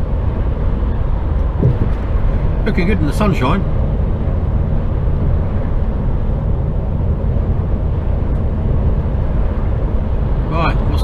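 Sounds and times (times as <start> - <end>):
diesel lorry engine drone: 0.0 - 11.0
tyre and road noise: 0.0 - 11.0.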